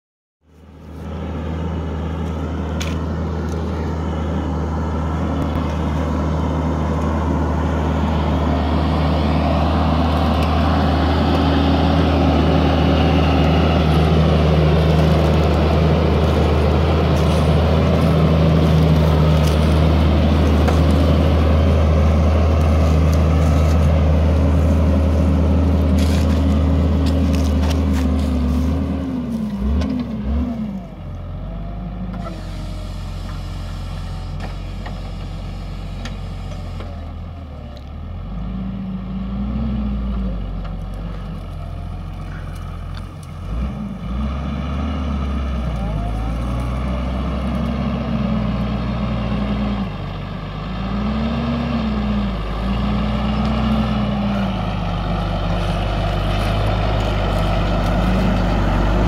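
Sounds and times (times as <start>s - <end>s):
tractor diesel engine under load: 0.4s - 59.0s.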